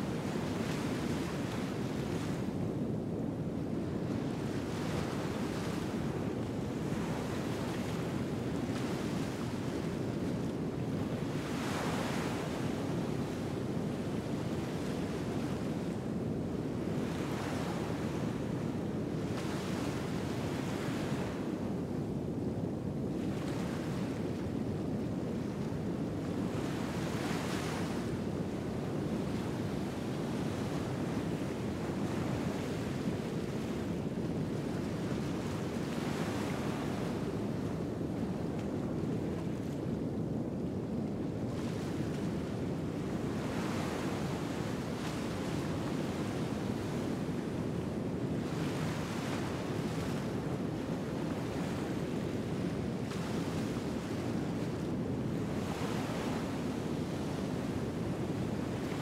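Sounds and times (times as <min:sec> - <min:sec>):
low rumble of the sea: 0:00.0 - 0:59.0.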